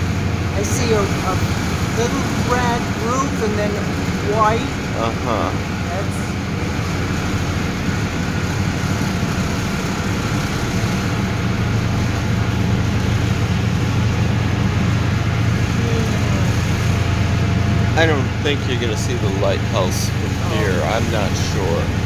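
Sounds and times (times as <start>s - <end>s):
diesel engines droning: 0.0s - 22.0s
water rushing along hull: 0.0s - 22.0s.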